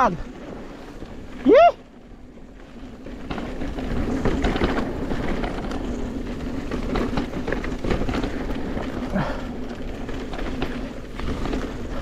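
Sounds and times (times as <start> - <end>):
bike rattling and knocking: 0.0 - 12.0
bike tyres rumbling: 0.0 - 12.0
wind buffeting microphone: 0.0 - 12.0.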